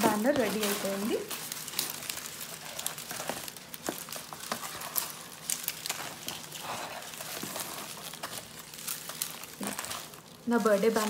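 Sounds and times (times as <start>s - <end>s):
foil banner rustling and crinkling: 0.0s - 11.0s.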